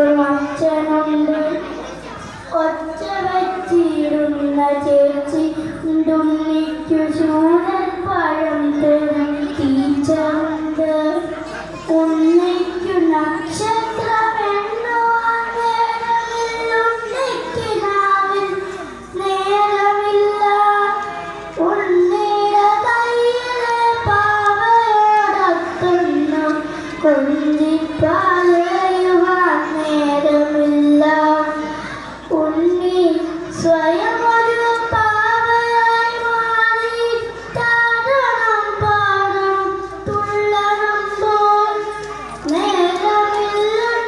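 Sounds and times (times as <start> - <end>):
boy singing into a microphone: 0.0 - 44.0.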